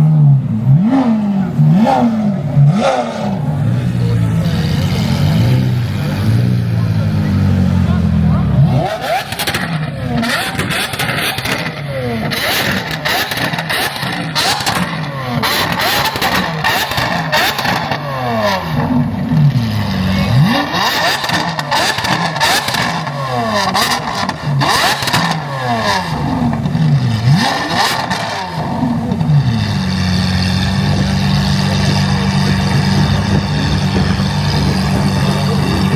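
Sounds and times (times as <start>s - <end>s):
car engines revving: 0.0s - 35.9s.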